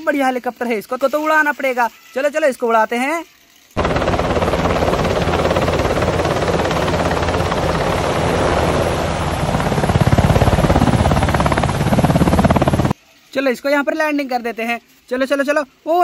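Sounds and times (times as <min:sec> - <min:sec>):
toy helicopter rotor whirring: 0:00.1 - 0:13.0.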